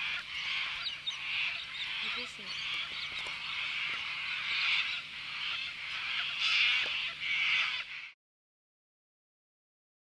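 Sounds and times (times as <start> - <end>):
cockatoos screeching: 0.0 - 8.2.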